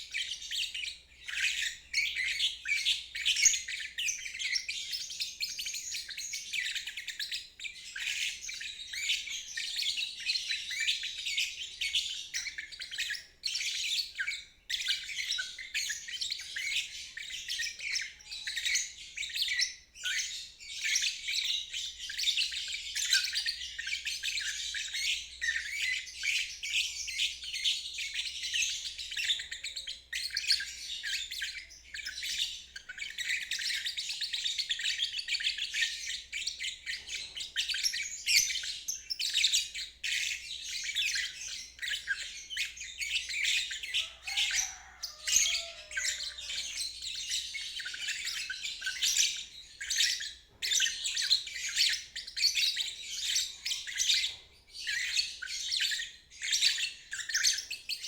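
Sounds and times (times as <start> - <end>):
lovebird chirping and twittering: 0.0 - 58.0.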